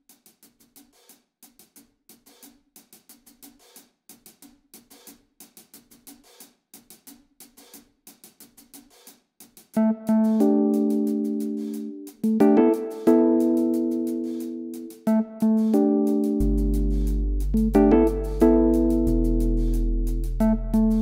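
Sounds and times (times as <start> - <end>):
hi-hat and cymbals rhythm: 0.0 - 21.0.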